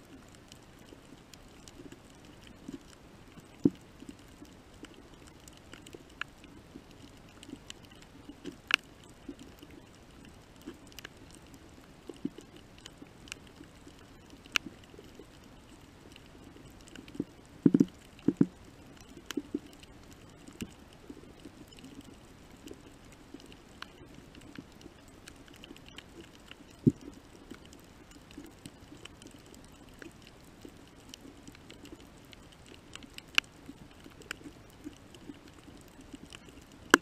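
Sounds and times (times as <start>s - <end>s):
underwater sharp clicks: 1.3s - 37.0s.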